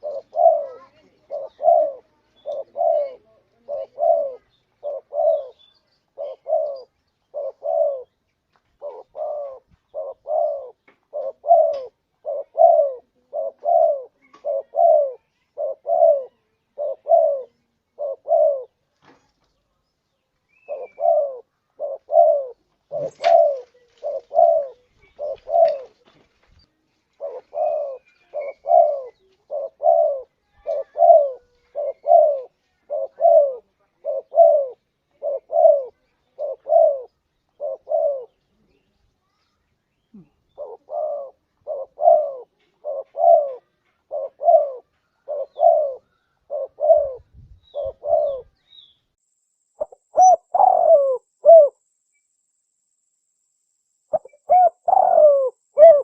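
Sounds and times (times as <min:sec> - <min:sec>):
dove cooing: 0:00.0 - 0:08.2, 0:08.8 - 0:18.8, 0:20.6 - 0:26.1, 0:27.1 - 0:38.7, 0:40.1 - 0:48.6, 0:49.8 - 0:51.9, 0:54.1 - 0:56.0.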